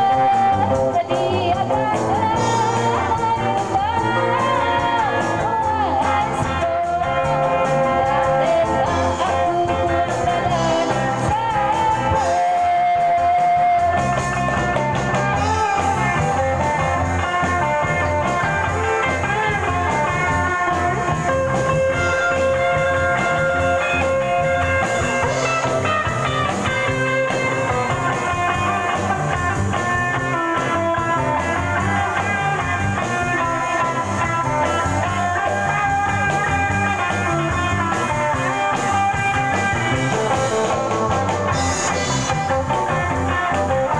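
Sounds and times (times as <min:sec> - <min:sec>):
guitar-led rock band: 0:00.0 - 0:43.9
person singing: 0:00.0 - 0:43.9.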